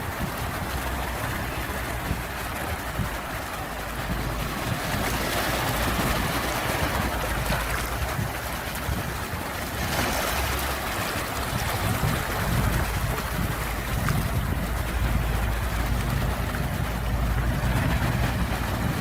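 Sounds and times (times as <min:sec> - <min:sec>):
sea waves surf: 0:00.0 - 0:19.0.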